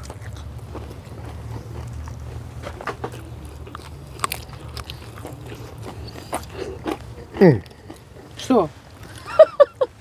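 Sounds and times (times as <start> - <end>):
crunching and chewing: 0.0 - 10.0
low steady hum: 0.0 - 10.0.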